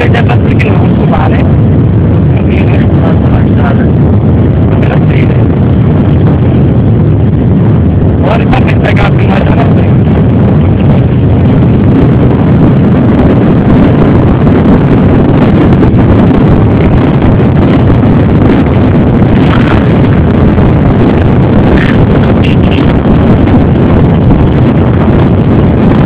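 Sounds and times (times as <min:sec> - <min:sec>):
motorcycle engines rumbling: 0:00.0 - 0:26.0
wind buffeting microphone: 0:00.0 - 0:26.0.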